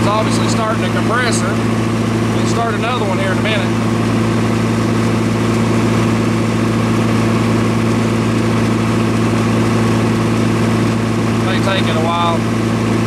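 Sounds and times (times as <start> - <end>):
diesel generator humming: 0.0 - 13.0.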